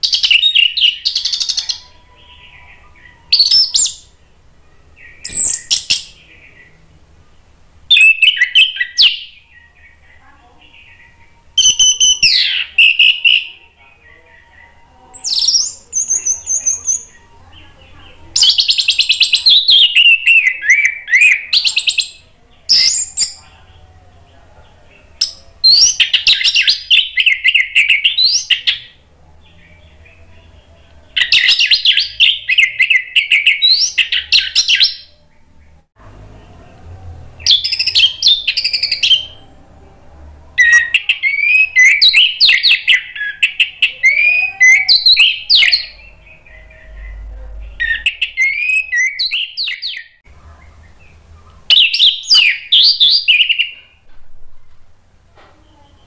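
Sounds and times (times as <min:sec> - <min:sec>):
thrush singing: 0:00.0 - 0:54.1.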